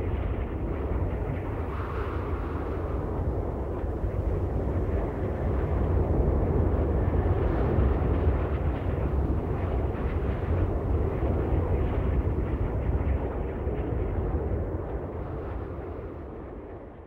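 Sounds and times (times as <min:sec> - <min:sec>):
jet airliner rumble in flight: 0:00.0 - 0:17.0.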